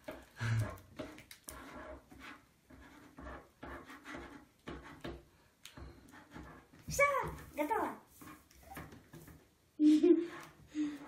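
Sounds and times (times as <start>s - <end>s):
pens scratching on paper: 0.0s - 9.5s, 10.2s - 11.0s.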